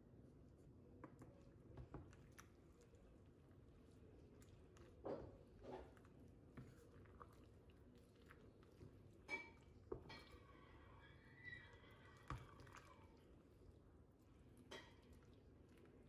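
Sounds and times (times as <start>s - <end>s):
wet squishing of stirred tomatoes: 0.3s - 16.0s.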